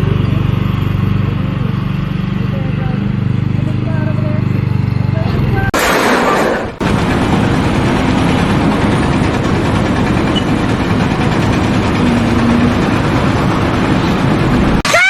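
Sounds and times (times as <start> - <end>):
heavy engine rumbling: 0.0 - 15.0.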